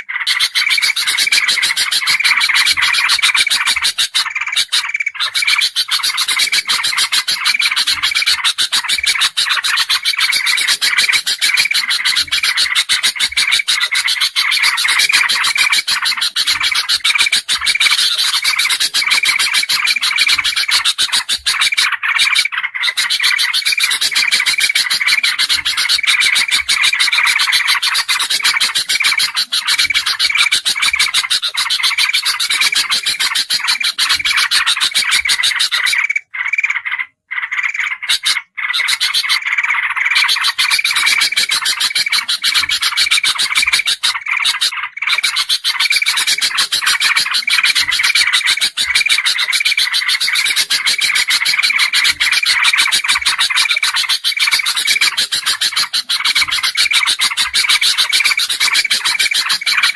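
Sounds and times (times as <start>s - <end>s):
bulbuls chattering chorus: 0.0s - 59.9s.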